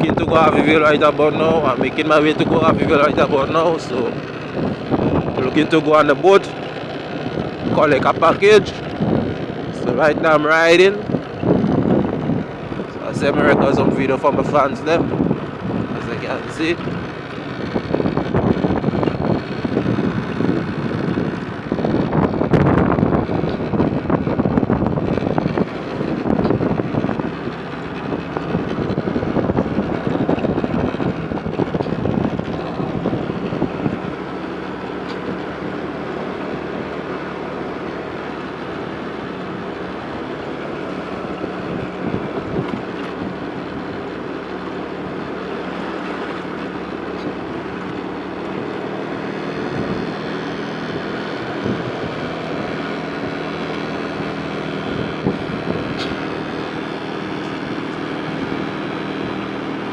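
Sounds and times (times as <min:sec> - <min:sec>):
vehicle engine drone: 0:00.0 - 0:59.9
wind buffeting microphone: 0:00.0 - 0:59.9.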